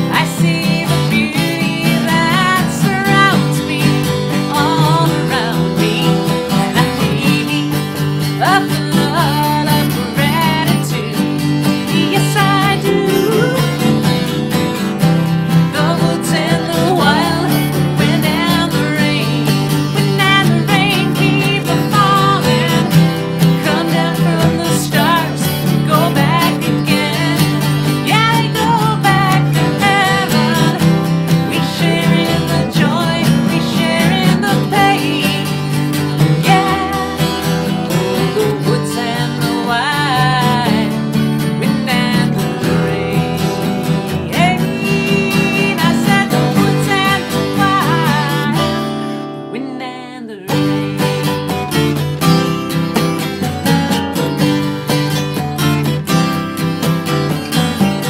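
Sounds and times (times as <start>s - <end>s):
woman singing: 0.0s - 52.5s
acoustic guitars strummed: 0.0s - 58.0s.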